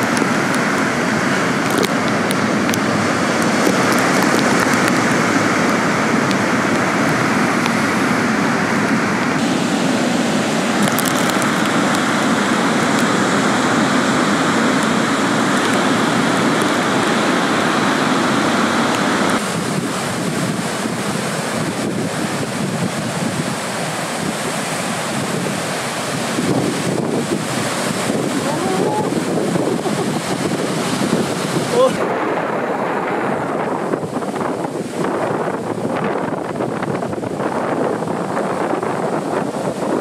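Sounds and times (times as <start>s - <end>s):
surf breaking: 0.0s - 40.0s
wind rumbling on microphone: 0.0s - 40.0s.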